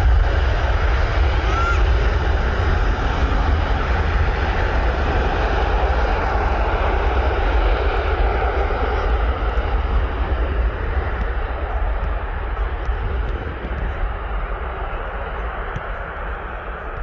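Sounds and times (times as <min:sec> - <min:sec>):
jet airliner taking off: 0:00.0 - 0:17.0.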